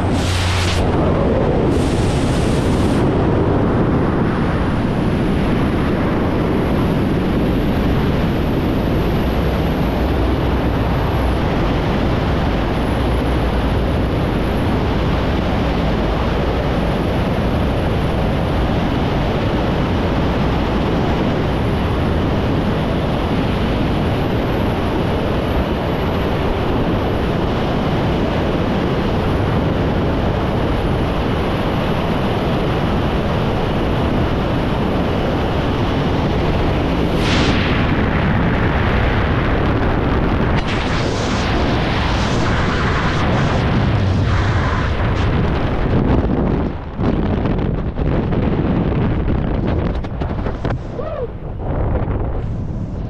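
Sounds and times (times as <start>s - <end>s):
wind roaring over microphone: 0.0s - 53.0s.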